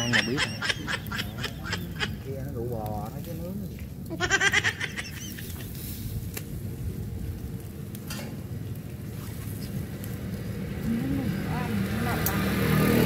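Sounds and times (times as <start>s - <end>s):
fish sizzling over charcoal: 0.0s - 13.0s.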